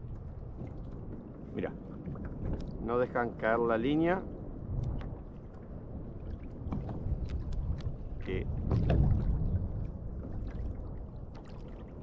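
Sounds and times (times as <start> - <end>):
water lapping against kayak hull: 0.0 - 3.5, 4.2 - 12.0.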